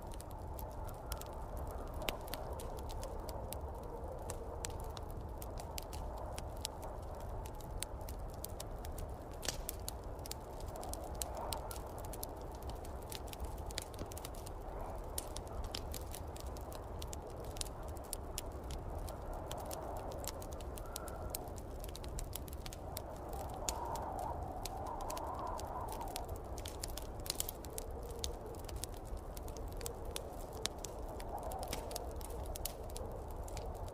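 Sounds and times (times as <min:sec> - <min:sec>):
snowstorm wind rushing: 0:00.0 - 0:33.9
wood fire crackling and popping: 0:00.0 - 0:33.9.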